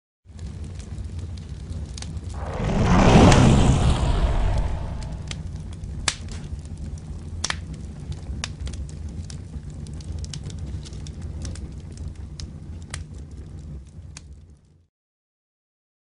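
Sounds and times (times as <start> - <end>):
fire crackling and popping: 0.3 - 14.4
fire rumbling: 0.4 - 14.1.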